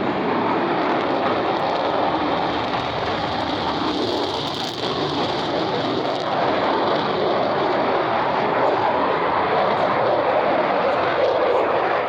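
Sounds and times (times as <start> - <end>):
fighter jet engine roaring: 0.0 - 12.0.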